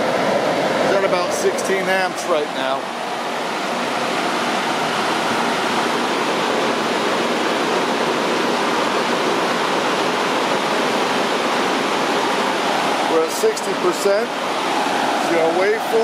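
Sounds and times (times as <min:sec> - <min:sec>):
cooling fan rushing air: 0:00.0 - 0:16.0.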